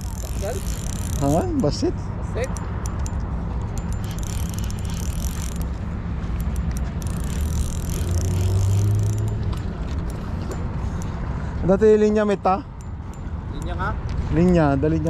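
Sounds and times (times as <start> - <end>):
vehicle engines humming: 0.0 - 15.0.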